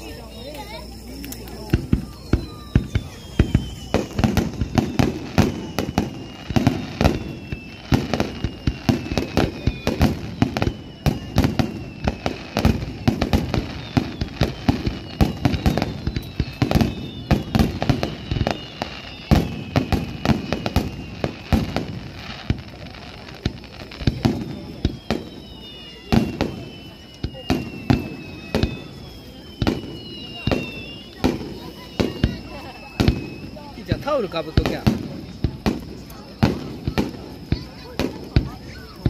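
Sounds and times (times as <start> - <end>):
falling firework whistles: 0.0 - 39.0
fireworks booming and crackling: 0.0 - 39.0.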